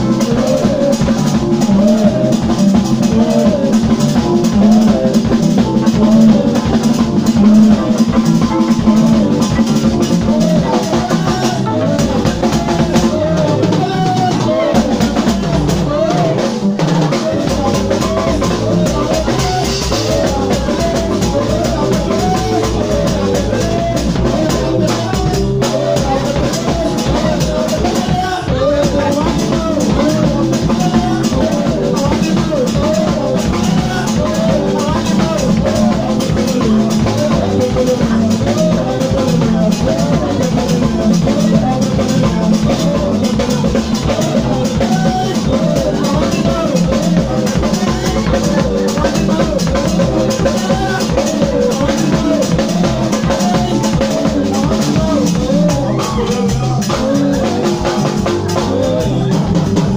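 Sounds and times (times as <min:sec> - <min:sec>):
drum kit beat: 0:00.0 - 0:59.9
electric keyboard and guitar: 0:00.0 - 0:59.9
wavering melody line: 0:00.0 - 0:59.9.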